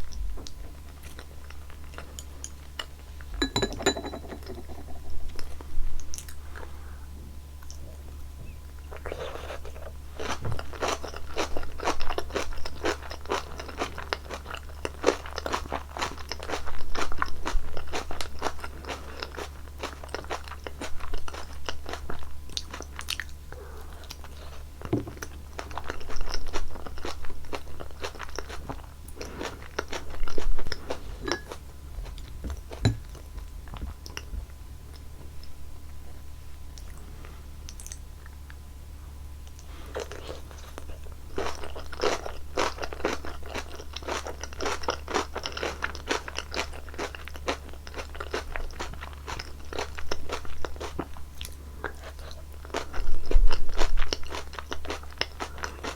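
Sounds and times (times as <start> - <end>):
chewing and crunching: 0.0 - 3.4, 7.6 - 38.6, 39.4 - 55.9
steady low hum: 0.0 - 55.9.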